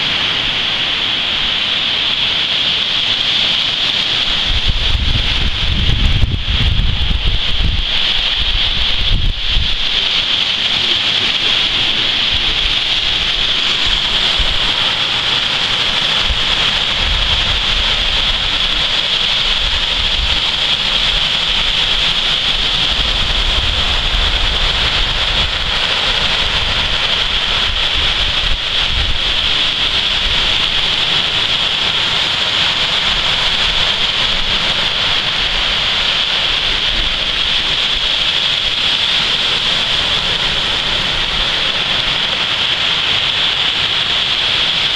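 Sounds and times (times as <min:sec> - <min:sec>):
constant high hiss: 0:00.0 - 0:44.9
wind buffeting microphone: 0:03.6 - 0:44.9.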